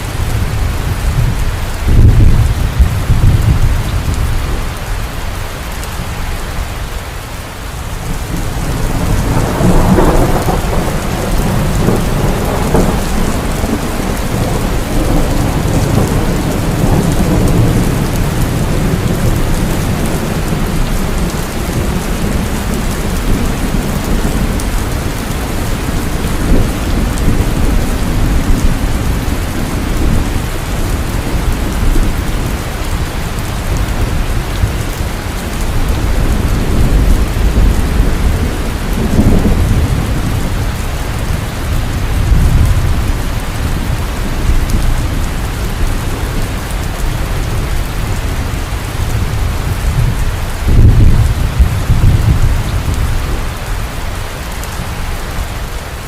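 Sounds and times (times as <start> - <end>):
low rumble of thunder: 0.0 - 5.2, 8.0 - 55.8
heavy rain falling: 0.0 - 56.0.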